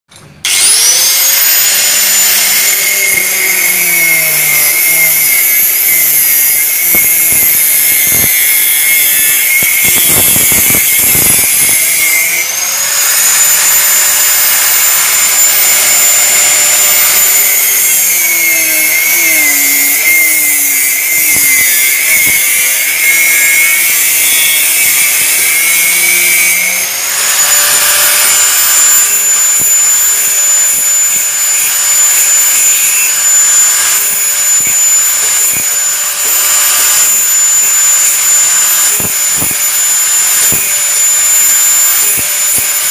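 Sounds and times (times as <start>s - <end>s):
angle grinder cutting steel: 0.2s - 42.9s.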